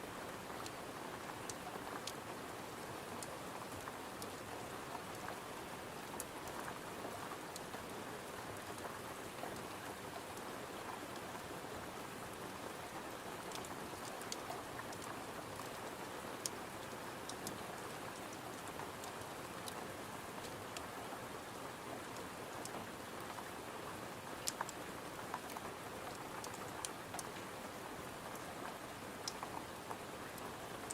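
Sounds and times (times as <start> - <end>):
rain against a window: 0.1 - 30.9.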